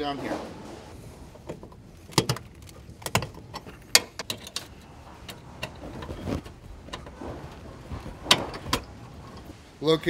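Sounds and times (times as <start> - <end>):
plastic trim rustling: 0.9 - 9.7.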